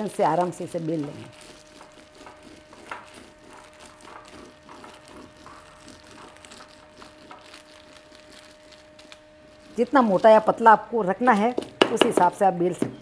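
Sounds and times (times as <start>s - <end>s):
plastic sheet crinkling under rolling pin: 0.0s - 12.4s.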